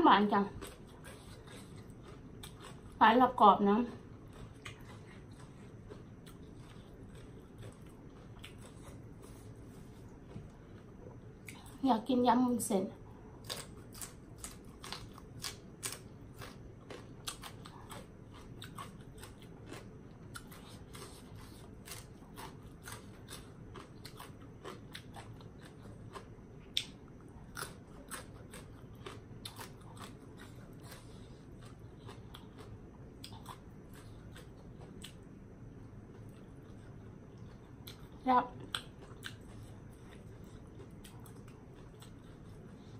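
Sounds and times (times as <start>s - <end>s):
chewing and crunching: 0.1s - 11.8s, 13.0s - 42.9s.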